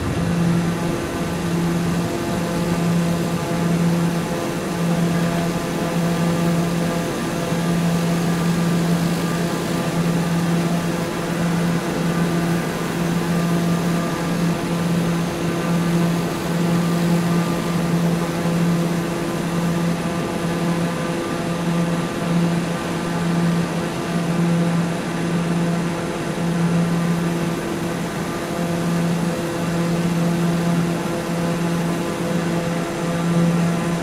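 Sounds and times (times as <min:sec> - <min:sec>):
steady machine drone: 0:00.0 - 0:34.0.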